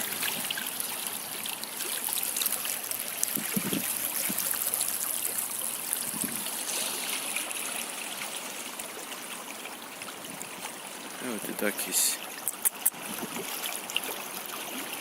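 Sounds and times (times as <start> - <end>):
stream water babbling over stones: 0.0 - 15.0.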